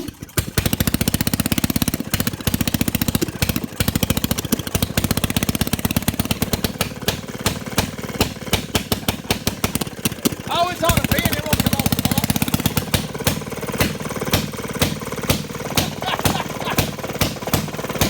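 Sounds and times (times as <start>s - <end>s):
small engine exhaust pops: 0.0s - 18.0s.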